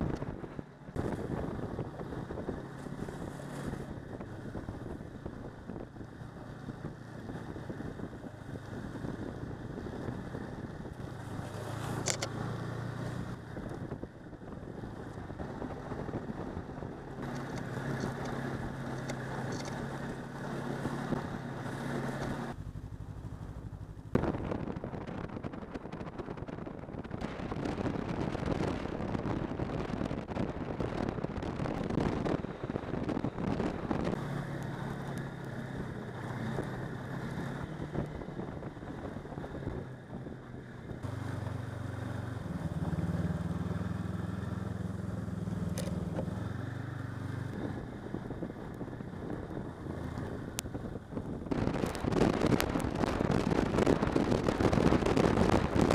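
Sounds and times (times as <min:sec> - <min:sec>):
wind on microphone: 0:00.0 - 0:23.0, 0:23.7 - 0:55.9
snowmobile engine running: 0:00.0 - 0:46.8, 0:47.5 - 0:55.9.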